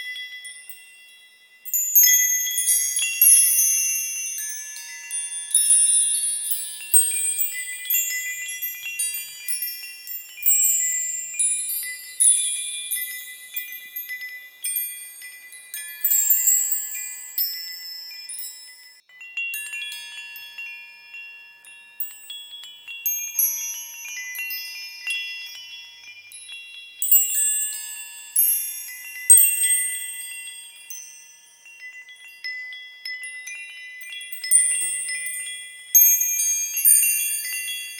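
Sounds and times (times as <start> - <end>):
small bells chiming: 0.0 - 37.9.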